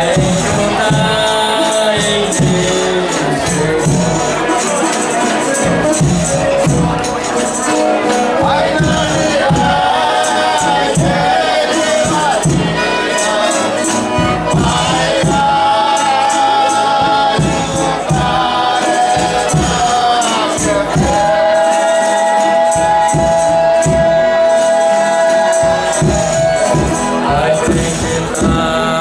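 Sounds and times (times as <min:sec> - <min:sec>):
shaken tambourines: 0:00.0 - 0:29.0
steady drum beats: 0:00.0 - 0:29.0
voices singing together: 0:00.0 - 0:29.0.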